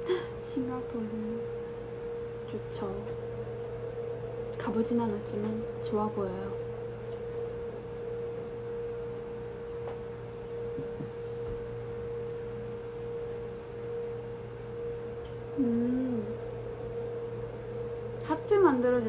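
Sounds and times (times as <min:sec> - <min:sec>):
lower hum: 0:00.0 - 0:19.0
pure steady hum: 0:00.0 - 0:19.0.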